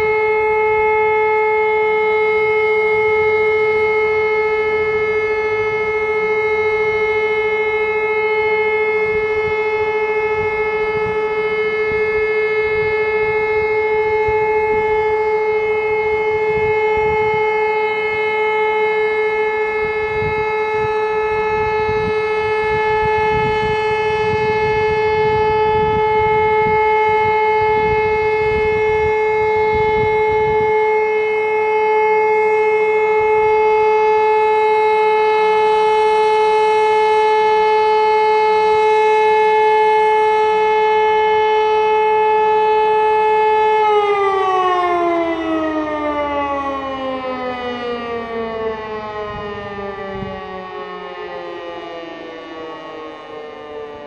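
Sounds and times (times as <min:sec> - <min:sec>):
siren steady tone: 0:00.0 - 0:54.0.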